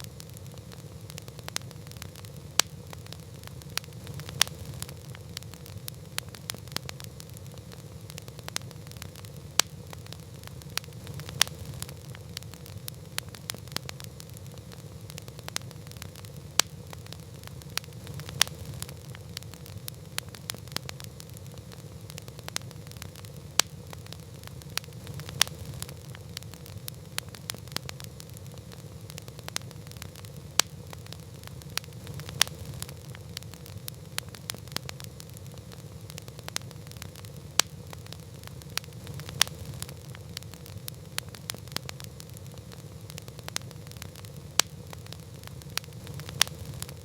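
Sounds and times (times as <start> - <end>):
campfire pops and snaps: 0.0 - 47.0
low rumble of burning fire: 0.0 - 47.0.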